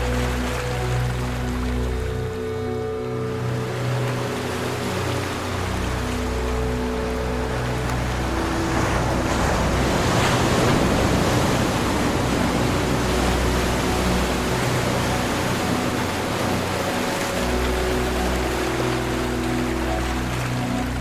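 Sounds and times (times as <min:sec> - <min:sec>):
ocean surf washing: 0:00.0 - 0:21.0.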